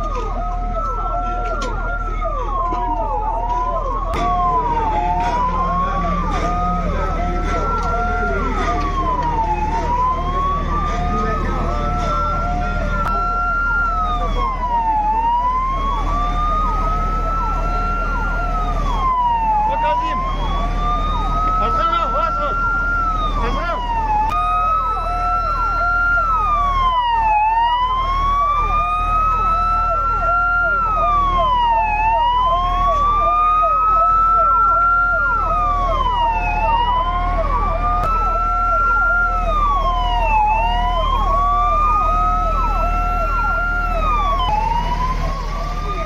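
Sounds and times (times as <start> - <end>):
pulsing siren tone: 0.0 - 46.0
wailing siren: 0.0 - 46.0.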